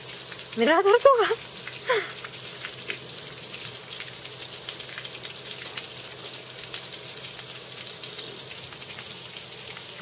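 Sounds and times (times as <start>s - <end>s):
rain pattering on water: 0.0s - 10.0s.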